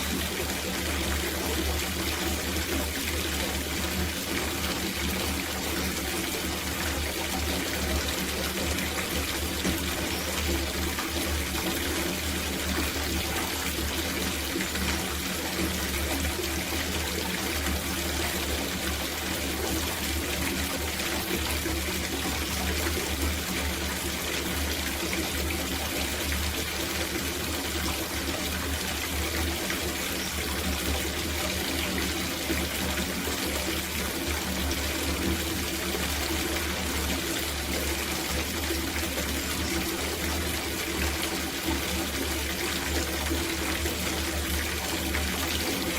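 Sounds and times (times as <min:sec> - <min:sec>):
tap water filling a bathtub: 0:00.0 - 0:45.9.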